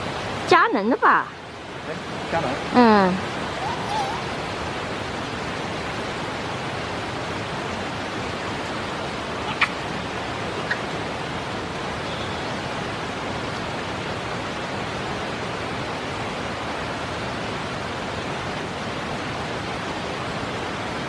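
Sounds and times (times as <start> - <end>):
steady rushing noise: 1.3 - 21.0.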